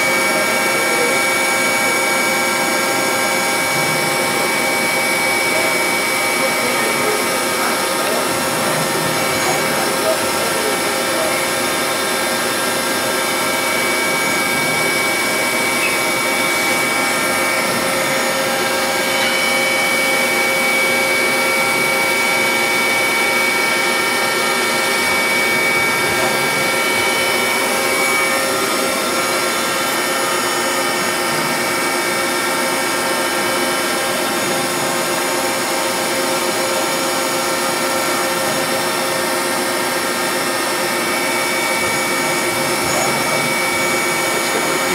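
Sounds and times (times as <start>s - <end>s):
milling machine cutting metal: 0.0s - 44.9s.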